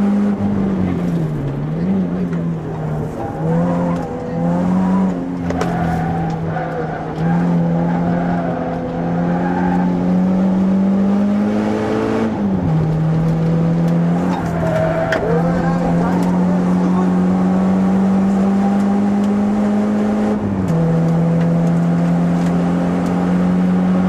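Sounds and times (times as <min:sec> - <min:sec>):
car engine under load: 0:00.0 - 0:24.0.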